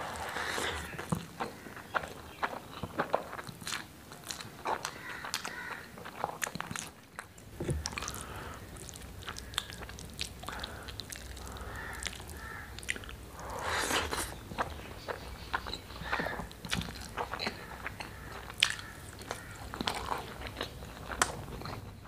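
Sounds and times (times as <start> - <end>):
close chewing with mouth clicks: 0.0 - 22.0.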